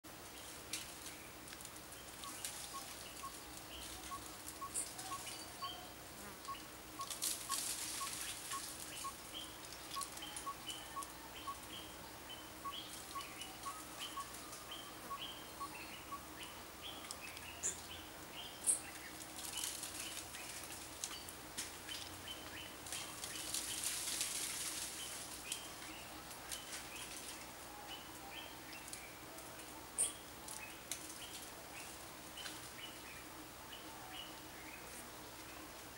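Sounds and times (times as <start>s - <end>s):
dry leaves and twigs crackling: 0.1s - 35.9s.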